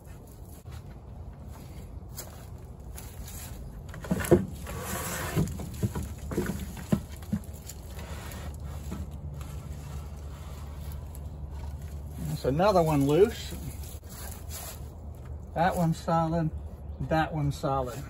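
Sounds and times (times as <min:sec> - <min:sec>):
pine needles rustling: 0:00.0 - 0:03.9, 0:04.5 - 0:15.9.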